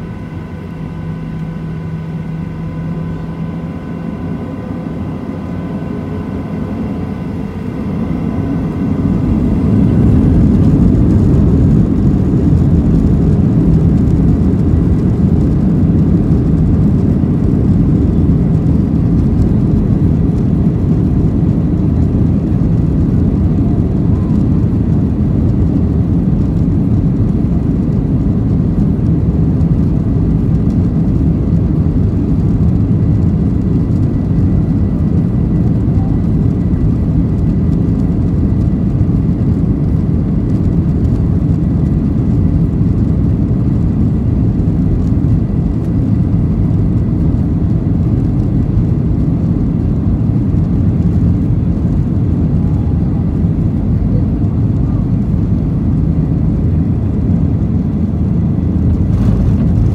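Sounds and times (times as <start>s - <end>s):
deep engine rumble: 0.0s - 59.9s
faint high engine whine: 0.0s - 59.9s.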